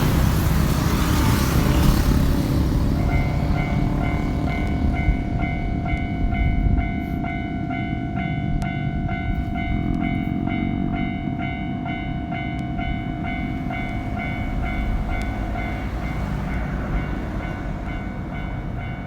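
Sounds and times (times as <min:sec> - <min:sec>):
train rushing rumble: 0:00.0 - 0:19.0.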